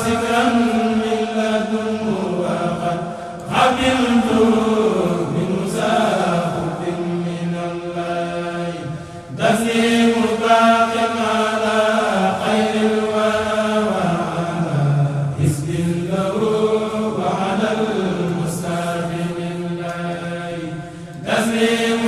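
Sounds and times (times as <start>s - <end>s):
group chanting: 0.0s - 22.0s.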